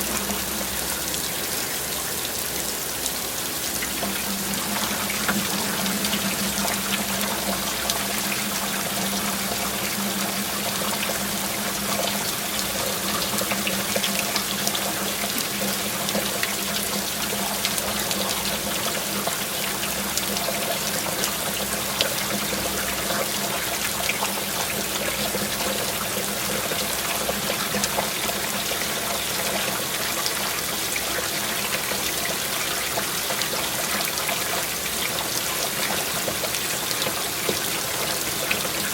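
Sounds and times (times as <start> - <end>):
heavy rain falling: 0.0 - 38.9
water running and splashing: 0.0 - 38.9.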